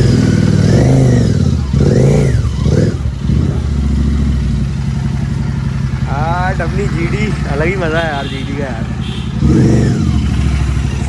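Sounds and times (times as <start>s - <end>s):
motorcycle engine revving and idling: 0.0s - 11.0s.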